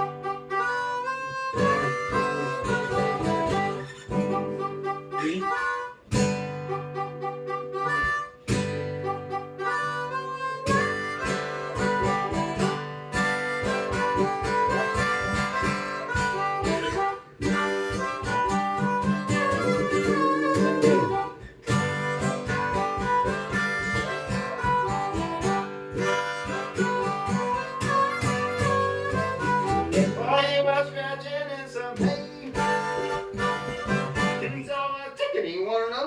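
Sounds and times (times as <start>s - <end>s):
strummed acoustic guitar: 0.0s - 35.0s
harmonica playing: 0.0s - 35.1s.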